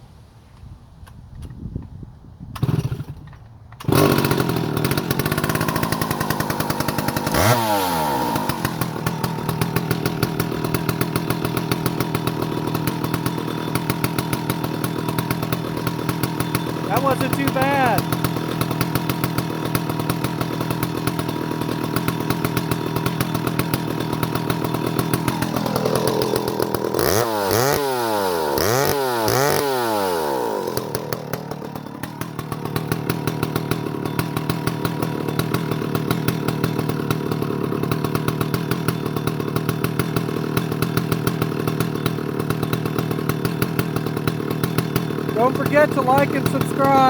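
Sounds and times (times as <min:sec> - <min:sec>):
chainsaw engine idling and revving: 0:02.6 - 0:47.0.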